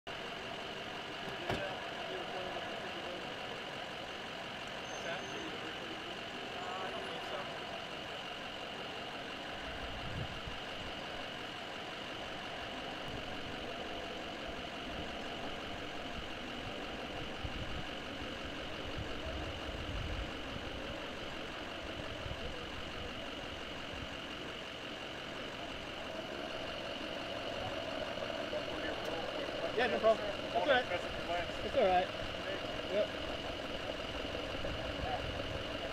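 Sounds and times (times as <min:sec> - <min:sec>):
vehicle engines idling: 0:00.1 - 0:35.9.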